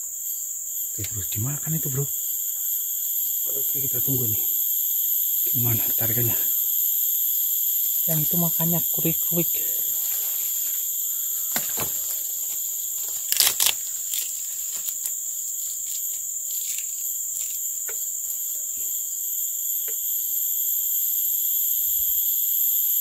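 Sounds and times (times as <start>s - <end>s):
insects shrilling: 0.0s - 23.0s.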